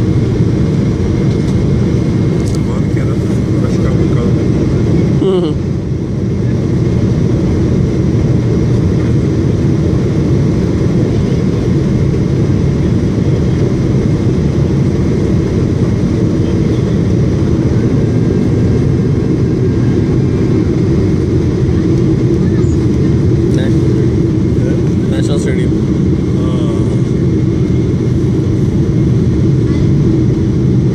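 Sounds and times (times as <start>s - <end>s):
airplane cabin engine rumble: 0.0s - 30.9s.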